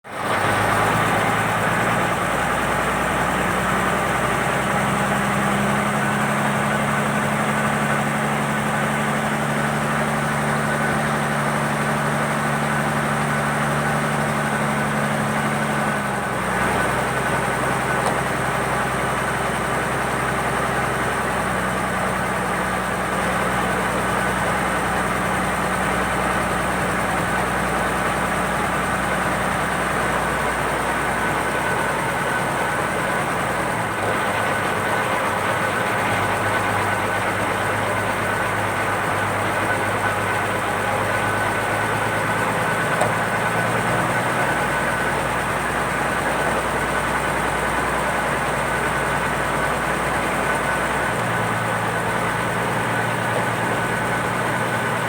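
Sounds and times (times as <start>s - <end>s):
boat engine running: 0.1s - 55.0s.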